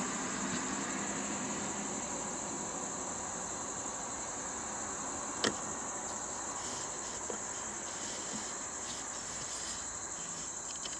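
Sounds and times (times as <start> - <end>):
insects droning: 0.0 - 10.9.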